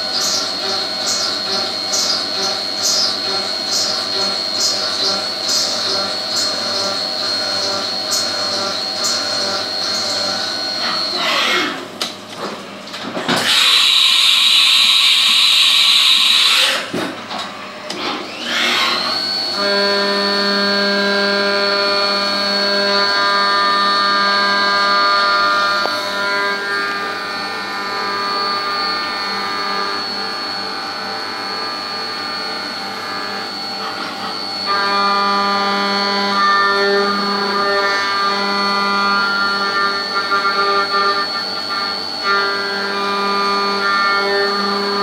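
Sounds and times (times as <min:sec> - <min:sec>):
milling spindle whine: 0:00.0 - 0:11.8, 0:18.3 - 0:45.0.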